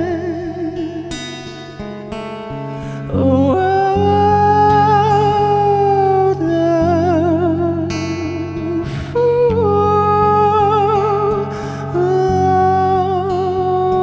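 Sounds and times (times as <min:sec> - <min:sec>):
person singing wordless vowels: 0:00.0 - 0:01.6, 0:03.0 - 0:14.0
acoustic guitar: 0:00.0 - 0:14.0.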